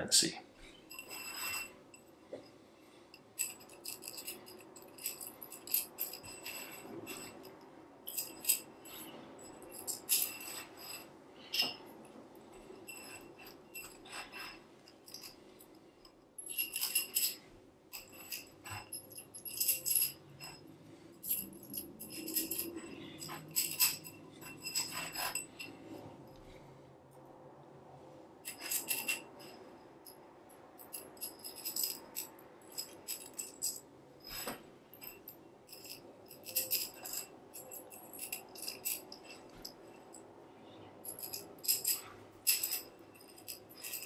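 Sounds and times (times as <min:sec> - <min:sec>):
metal tubes clinking and knocking: 0:00.6 - 0:26.4, 0:28.4 - 0:30.2, 0:30.8 - 0:44.0.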